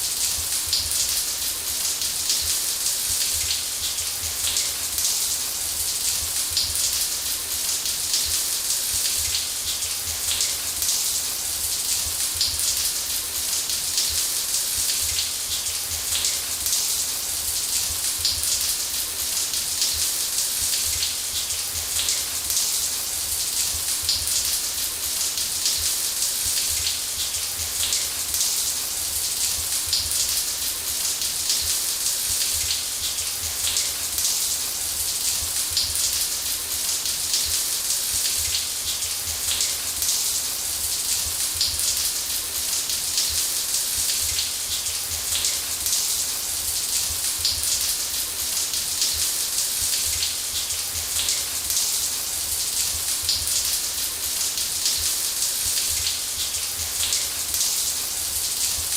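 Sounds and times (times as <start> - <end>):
shower spraying water: 0.0 - 58.9.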